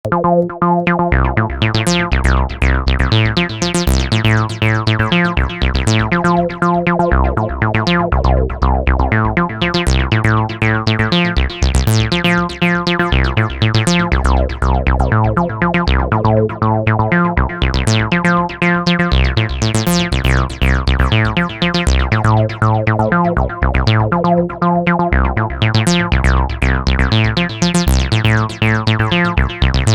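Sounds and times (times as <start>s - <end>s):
acid synthesizer chords: 0.0s - 29.9s
low bass line: 0.0s - 29.9s.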